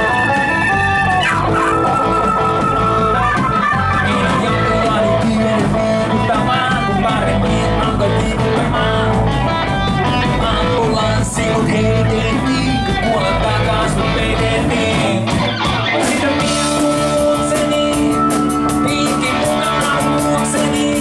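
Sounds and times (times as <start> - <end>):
bass guitar: 0.0 - 21.0
drums: 0.0 - 21.0
electric guitar: 0.0 - 21.0
rock band playing live: 0.0 - 21.0
stage keyboard: 0.0 - 21.0.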